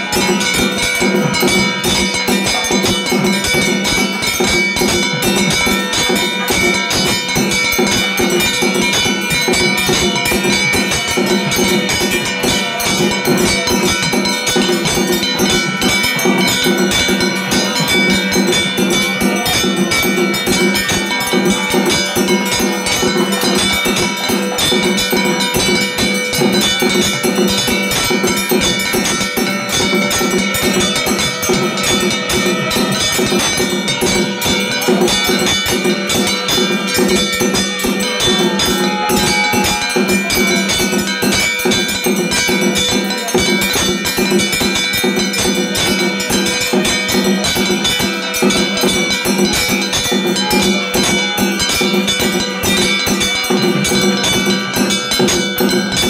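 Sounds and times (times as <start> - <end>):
rapid steady percussion: 0.0 - 56.0
temple bells ringing: 0.0 - 56.0.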